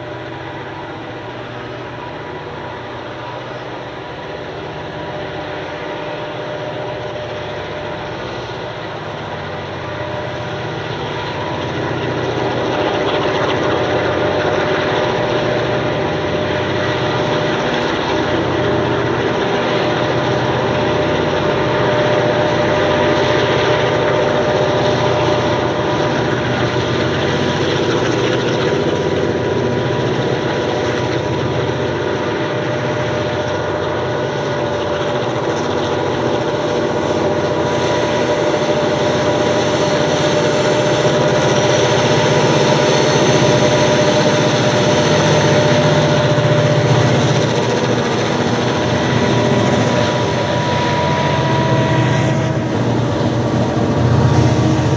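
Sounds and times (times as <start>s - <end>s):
diesel locomotive engines: 0.0s - 54.9s
held whine: 0.0s - 54.9s.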